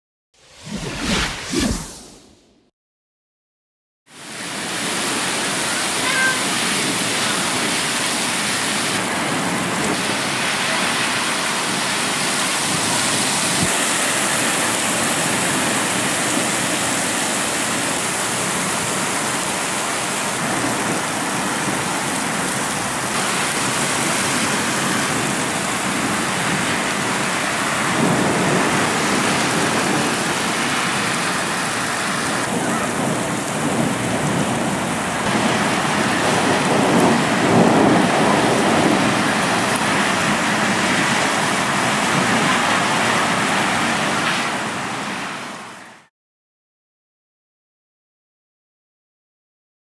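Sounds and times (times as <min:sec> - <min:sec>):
heavy rain on pavement: 0:04.1 - 0:46.1.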